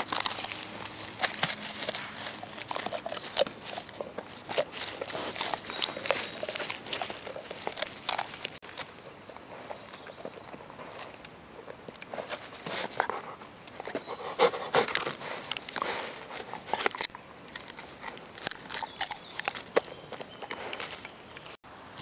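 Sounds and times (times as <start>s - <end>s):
dog gnawing a wooden stick: 0.0s - 21.6s.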